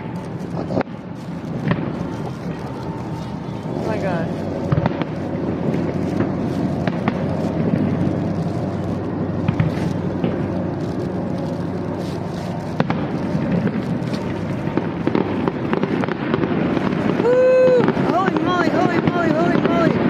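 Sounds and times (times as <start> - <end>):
fireworks bursting: 0.0 - 20.0
loud fireworks cracks: 0.0 - 20.0.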